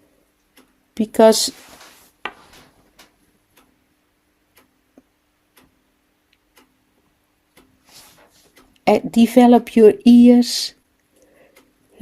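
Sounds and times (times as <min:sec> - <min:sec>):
faint clock ticking: 0:00.0 - 0:12.0.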